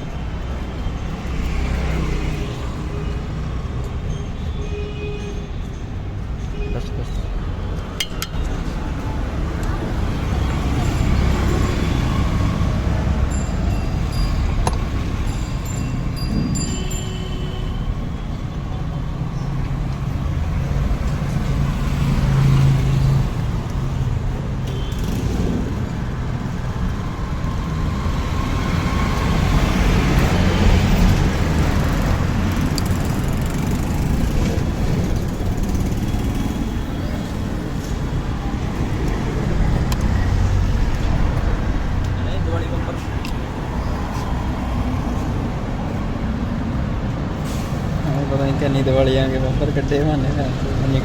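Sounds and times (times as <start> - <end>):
passing road traffic: 0.0 - 4.6, 5.5 - 51.0
vehicle engine rumble: 7.0 - 51.0.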